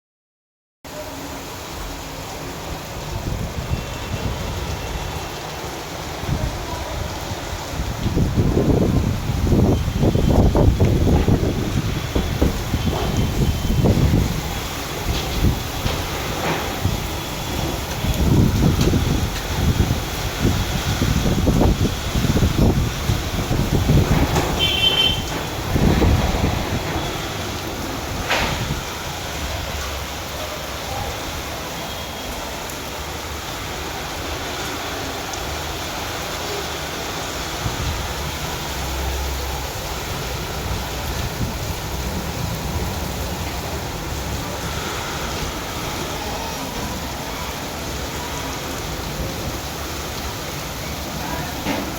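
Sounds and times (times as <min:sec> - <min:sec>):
steady rain falling: 0:00.9 - 0:51.9.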